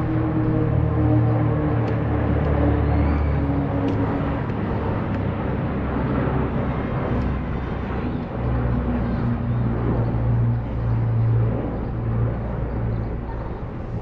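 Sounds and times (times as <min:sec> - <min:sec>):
military aircraft engines droning: 0:00.0 - 0:14.0.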